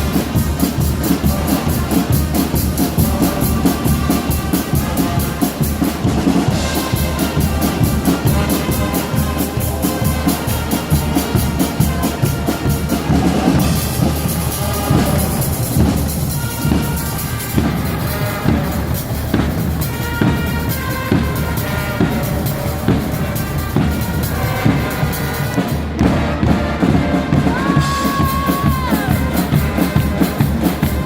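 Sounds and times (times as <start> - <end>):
loud cymbal crashes: 0.0 - 25.4
carnival brass band playing: 0.0 - 31.0.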